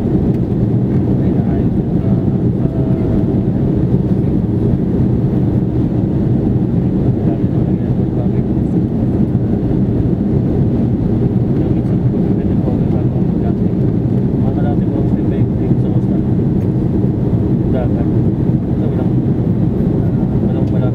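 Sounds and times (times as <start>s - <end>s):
aircraft engine drone in cabin: 0.0s - 20.9s.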